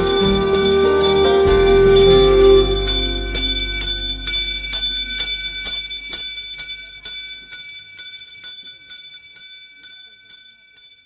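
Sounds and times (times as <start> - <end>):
bell ringing: 0.0 - 11.0.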